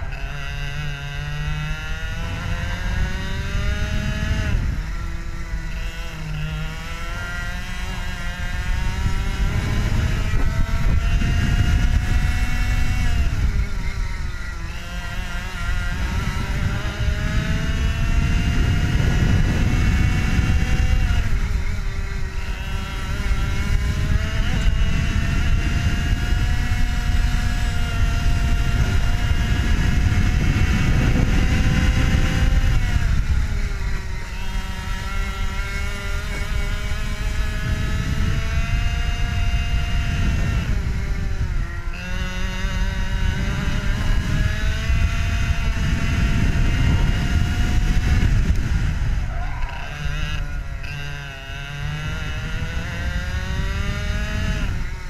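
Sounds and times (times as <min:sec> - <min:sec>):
kart engine racing: 0:00.0 - 0:55.0
wind rushing over microphone: 0:00.0 - 0:55.0.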